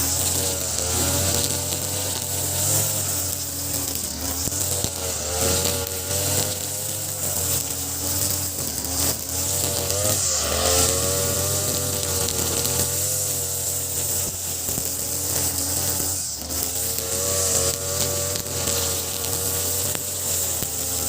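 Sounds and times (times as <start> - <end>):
brush cutter cutting grass: 0.0 - 21.0.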